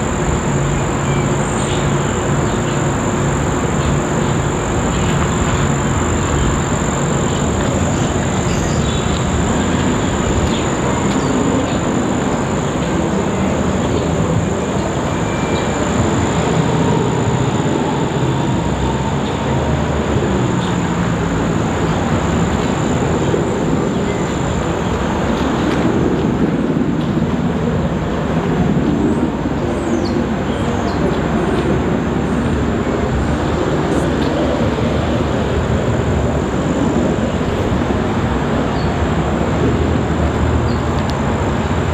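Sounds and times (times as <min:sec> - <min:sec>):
distant helicopter rotor drone: 0:00.0 - 0:41.9.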